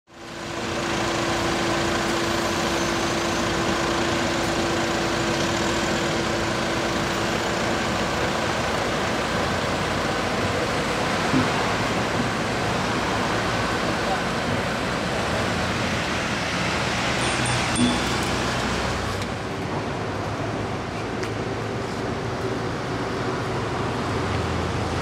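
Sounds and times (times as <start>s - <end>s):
excavator diesel engine running: 0.1s - 25.0s.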